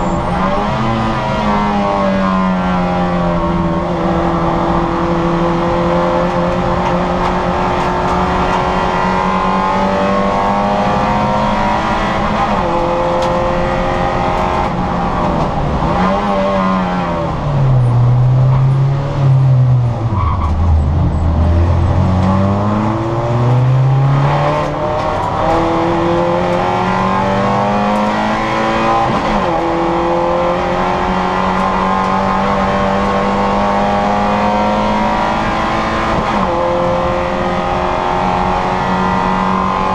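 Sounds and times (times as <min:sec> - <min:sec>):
car engine revving high: 0:00.0 - 0:39.9.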